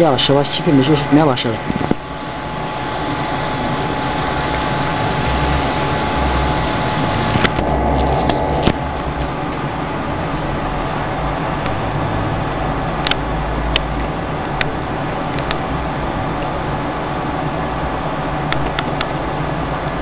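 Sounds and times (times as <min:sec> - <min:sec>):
hot-air blowers whining: 0:00.0 - 0:20.0.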